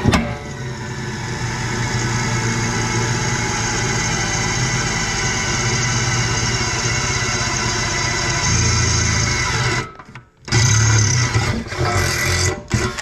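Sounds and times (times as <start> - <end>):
power drill boring sheet metal: 0.0 - 13.0.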